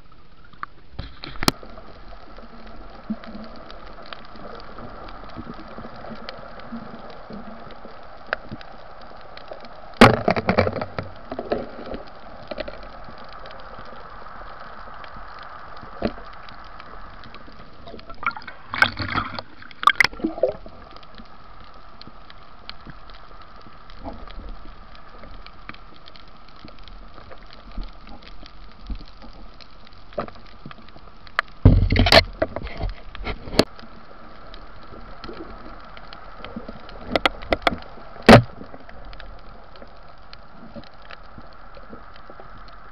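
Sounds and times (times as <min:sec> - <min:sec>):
underwater watery hiss and gurgling: 0:00.0 - 0:42.9.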